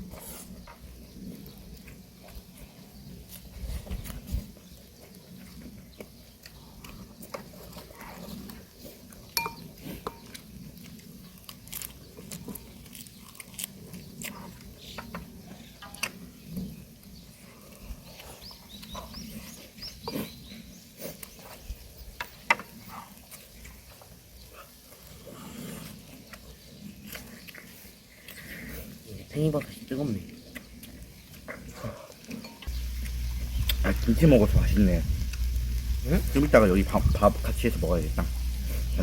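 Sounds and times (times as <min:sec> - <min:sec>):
people chewing: 0:00.0 - 0:39.0.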